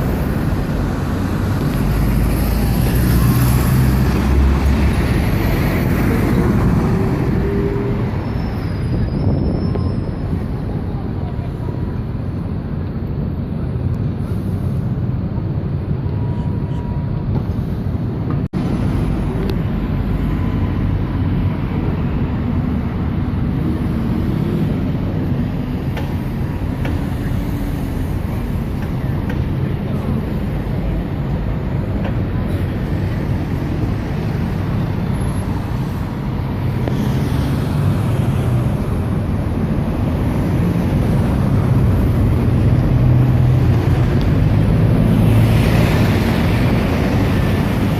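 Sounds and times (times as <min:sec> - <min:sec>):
bus engine: 0:00.0 - 0:47.9
road traffic passing: 0:00.0 - 0:47.9.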